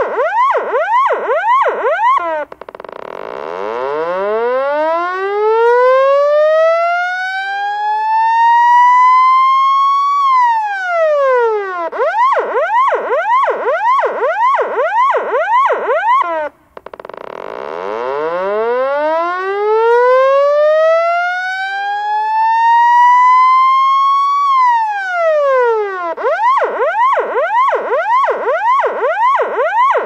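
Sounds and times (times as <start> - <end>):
police siren wailing and yelping: 0.0 - 16.6, 17.8 - 30.0.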